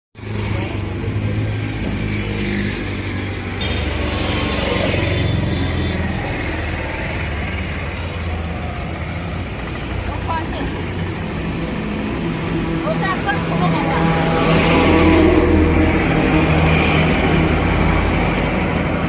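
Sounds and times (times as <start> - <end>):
vehicle engine humming: 0.2 - 19.0.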